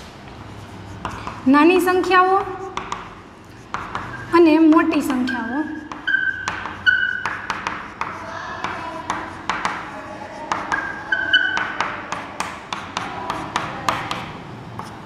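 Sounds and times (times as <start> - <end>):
chalk tapping and scratching: 0.0 - 15.0
high chalk squeaks: 0.3 - 15.0.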